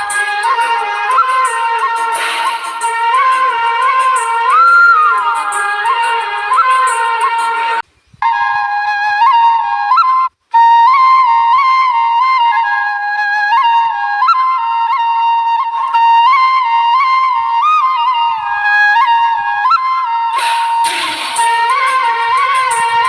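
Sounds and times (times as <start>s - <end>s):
solo flute melody: 0.0s - 23.0s.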